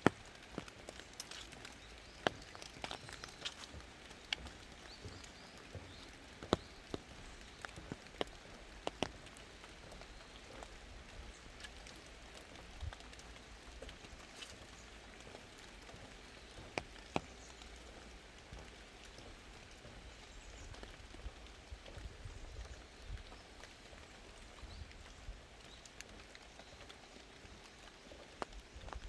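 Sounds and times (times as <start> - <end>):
rain hissing in forest: 0.0 - 29.0
raindrops tapping close by: 0.0 - 29.0.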